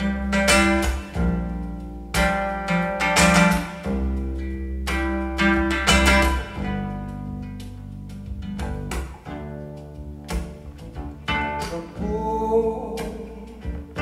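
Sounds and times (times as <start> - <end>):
guitar chords over bass: 0.0 - 14.0.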